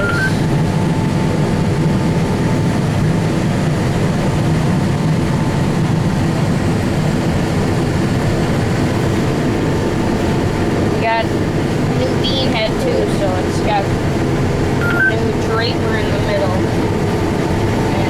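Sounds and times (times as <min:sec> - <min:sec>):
combine harvester engine drone: 0:00.0 - 0:18.0
faint steady whine: 0:00.0 - 0:18.0.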